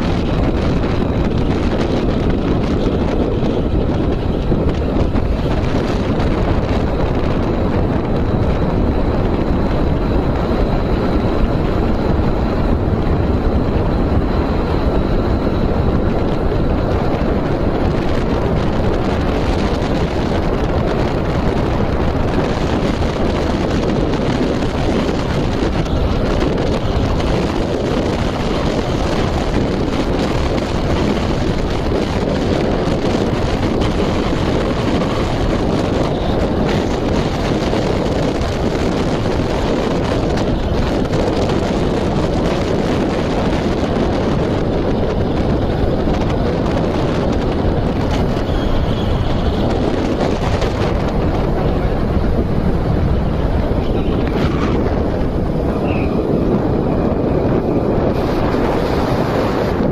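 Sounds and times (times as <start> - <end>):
loud rushing noise: 0.0 - 59.9
wind buffeting microphone: 0.0 - 59.9.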